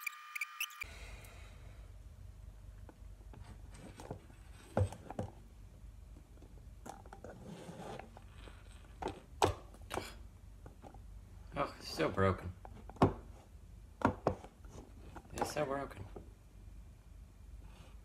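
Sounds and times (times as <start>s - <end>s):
low steady hum: 0.8s - 18.0s.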